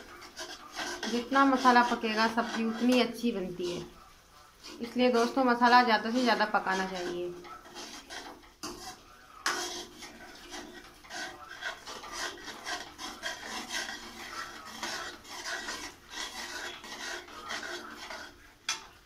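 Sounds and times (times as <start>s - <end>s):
steel ladle scraping a pan: 0.0s - 19.0s.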